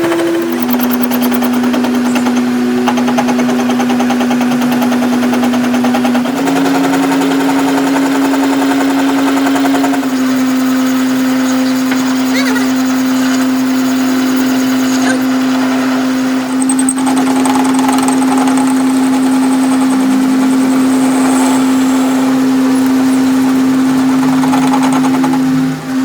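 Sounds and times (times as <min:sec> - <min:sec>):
metal lathe humming: 0:00.0 - 0:26.0.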